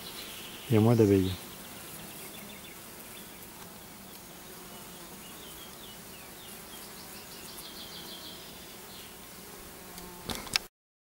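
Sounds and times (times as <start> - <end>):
honeybees humming: 0.0 - 10.6.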